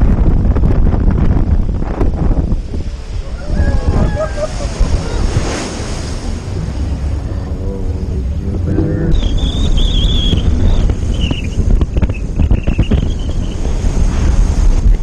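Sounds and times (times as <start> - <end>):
boat engine: 0.0 - 15.0
water rushing: 0.0 - 15.0
wind buffeting microphone: 0.0 - 15.0.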